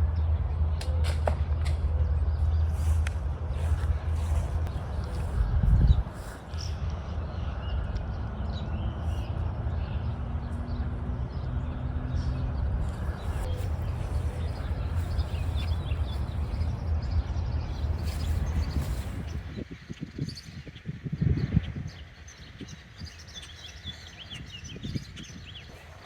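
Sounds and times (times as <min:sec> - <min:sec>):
low wind rumble: 0:00.0 - 0:26.0
birds chirping: 0:00.1 - 0:26.0.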